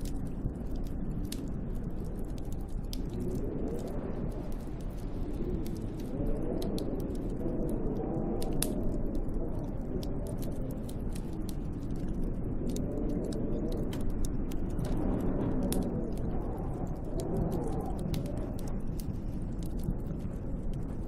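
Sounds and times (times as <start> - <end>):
sharp ticks and crackles: 0.0 - 21.0
snowstorm wind blowing: 0.0 - 21.0.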